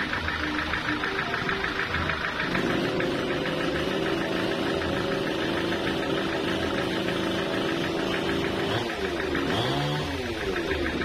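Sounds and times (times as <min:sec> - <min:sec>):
sawmill machinery pulsing: 0:00.0 - 0:11.0.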